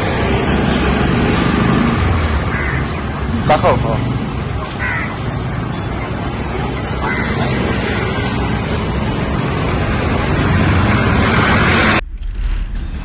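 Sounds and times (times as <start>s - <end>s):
loud road vehicle noise: 0.0s - 13.0s.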